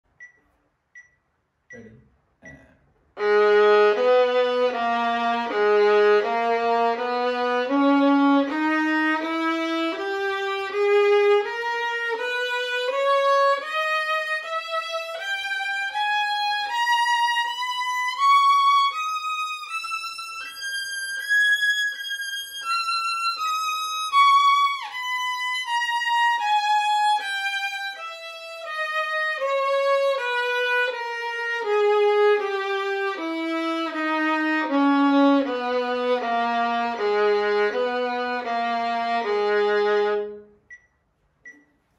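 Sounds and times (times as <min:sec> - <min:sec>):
violin playing a scale: 0:03.2 - 0:40.5.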